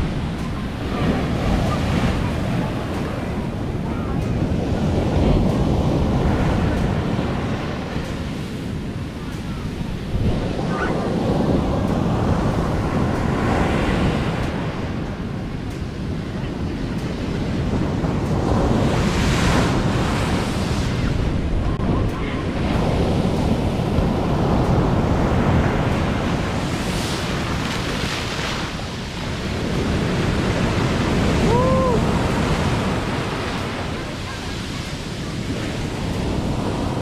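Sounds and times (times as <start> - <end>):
surf waves breaking: 0.0 - 37.0
wind buffeting microphone: 0.0 - 37.0.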